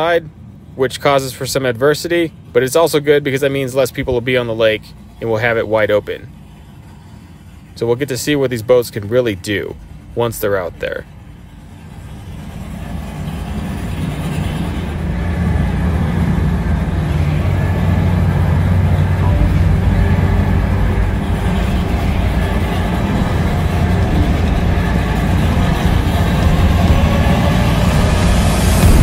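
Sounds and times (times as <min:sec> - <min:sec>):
boat engines idling: 0:00.0 - 0:29.0.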